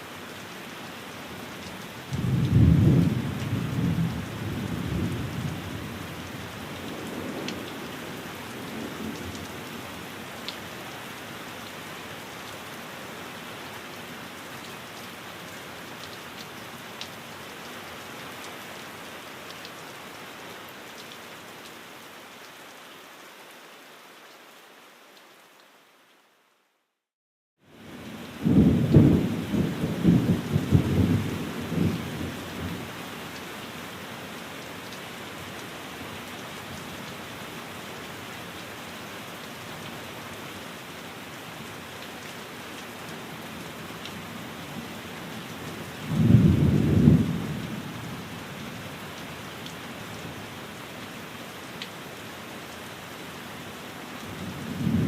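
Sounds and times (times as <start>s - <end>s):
rain on a window: 0.0s - 27.0s, 27.6s - 55.0s.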